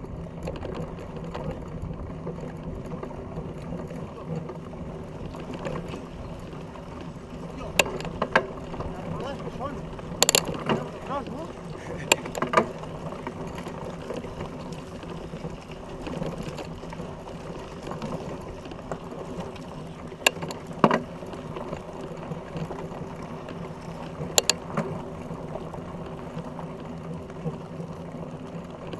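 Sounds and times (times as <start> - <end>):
bike knocks and rattles: 0.0 - 25.0
bike tyre and drivetrain noise: 0.0 - 28.9.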